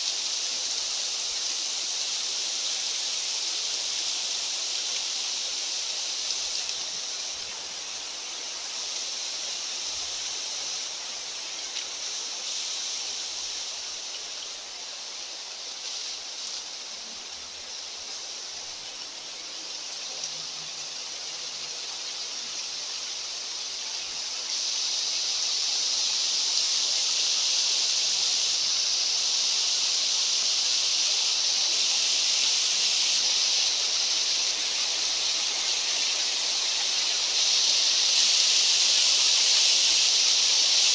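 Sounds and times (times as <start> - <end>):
hiss of mountain wind: 0.0 - 40.9.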